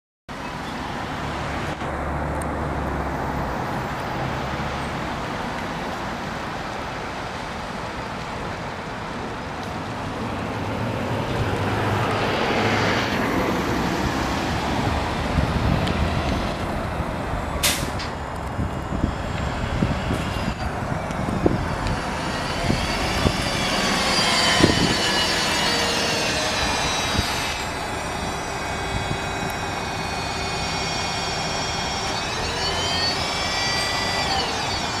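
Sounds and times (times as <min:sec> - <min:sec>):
bus engine drone: 0:00.3 - 0:35.0.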